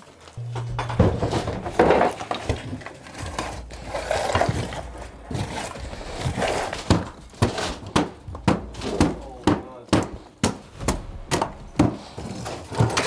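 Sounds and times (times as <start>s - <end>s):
demolition knocking and clattering: 0.6s - 13.0s.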